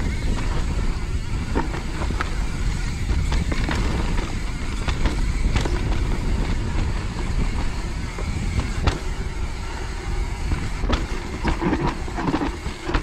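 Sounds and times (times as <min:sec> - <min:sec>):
bike rattling over roots: 0:00.0 - 0:13.0
tyres rumbling: 0:00.0 - 0:13.0.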